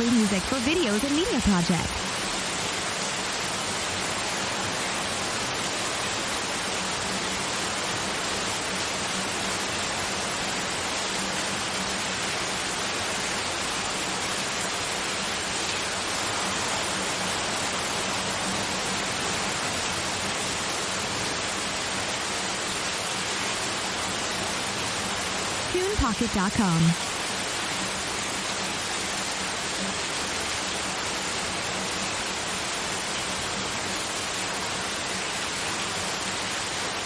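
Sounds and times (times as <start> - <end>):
white noise hiss: 0.0 - 37.0.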